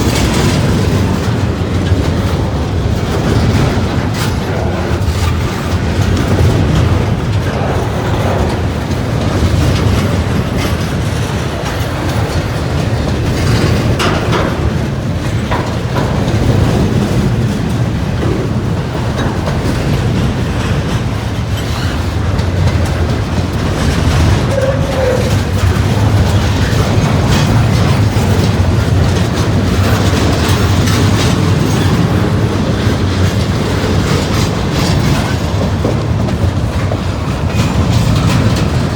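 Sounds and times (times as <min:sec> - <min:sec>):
freight train wheels clacking: 0:00.0 - 0:38.9
train low rumble: 0:00.0 - 0:38.9.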